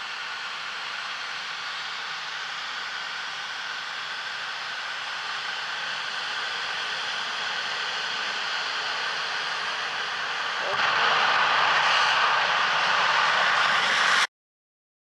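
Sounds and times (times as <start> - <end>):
distant turbine engine hiss: 0.0 - 14.3.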